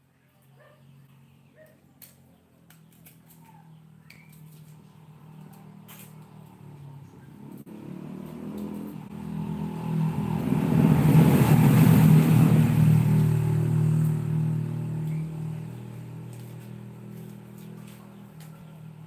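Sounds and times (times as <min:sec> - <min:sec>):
vehicle engine passing by: 0:00.2 - 0:19.0.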